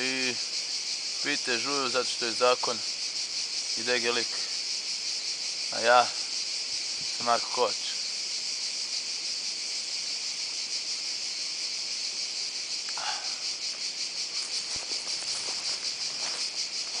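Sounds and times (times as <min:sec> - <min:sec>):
insects buzzing shrilly: 0:00.0 - 0:17.0.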